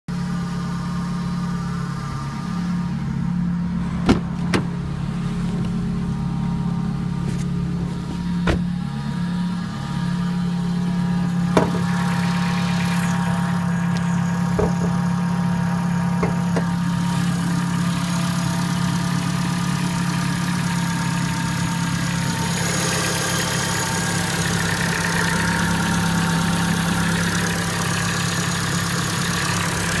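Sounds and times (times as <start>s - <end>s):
car engine running: 0.1s - 30.0s.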